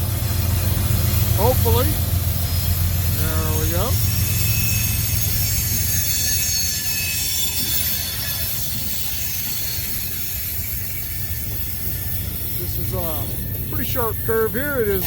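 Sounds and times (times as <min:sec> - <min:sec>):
deep train rumble: 0:00.0 - 0:15.0
train wheels squealing on rail: 0:00.0 - 0:15.0.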